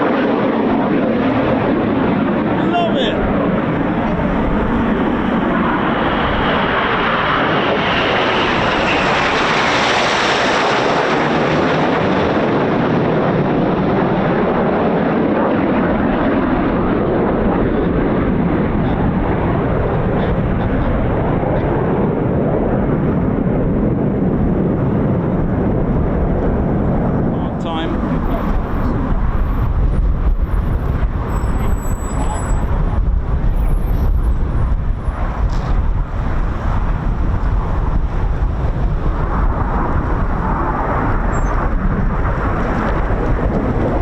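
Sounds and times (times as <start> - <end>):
jets passing overhead: 0.0 - 44.0
wind buffeting microphone: 0.0 - 44.0.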